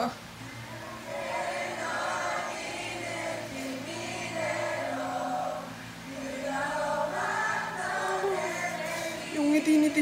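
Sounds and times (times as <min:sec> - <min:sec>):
women singing into microphones: 0:01.0 - 0:10.0.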